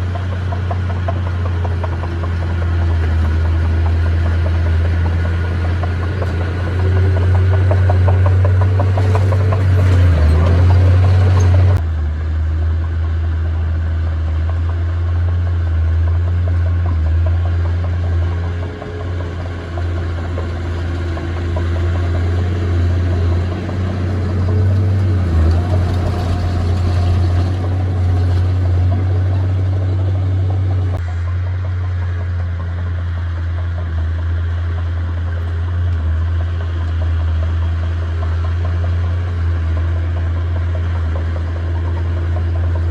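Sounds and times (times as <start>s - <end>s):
diesel engine humming: 0.0s - 11.9s, 12.8s - 42.9s.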